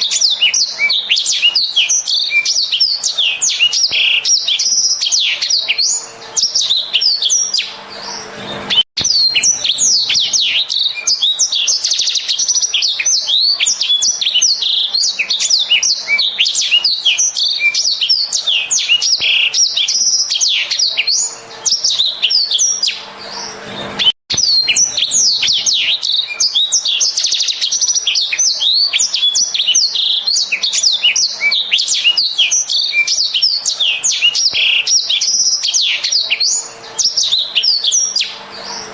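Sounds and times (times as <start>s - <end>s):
canary warbling song: 0.0s - 38.9s.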